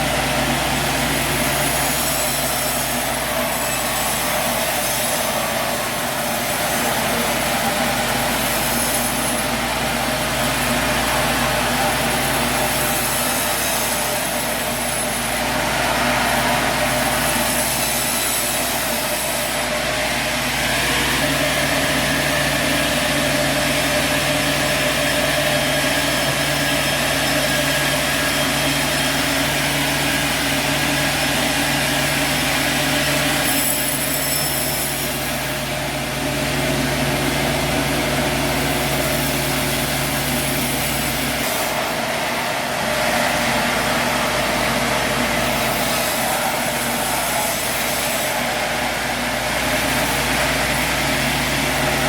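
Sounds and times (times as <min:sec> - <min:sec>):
sawmill motor hum and whir: 0:00.0 - 0:52.0.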